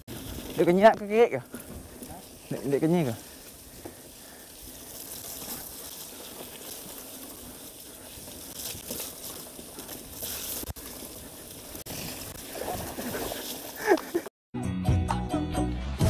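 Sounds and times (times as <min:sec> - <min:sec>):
bike tyres rolling through mud: 0:00.0 - 0:14.3.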